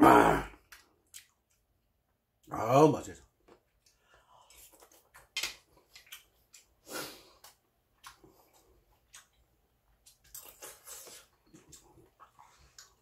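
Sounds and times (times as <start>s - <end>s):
man chewing: 0.5s - 1.8s, 3.4s - 13.0s.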